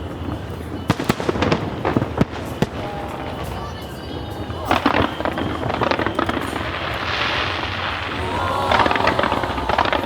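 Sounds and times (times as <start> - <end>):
crackling firework bursts: 0.0 - 10.0
fireworks cracks and pops: 0.0 - 10.0.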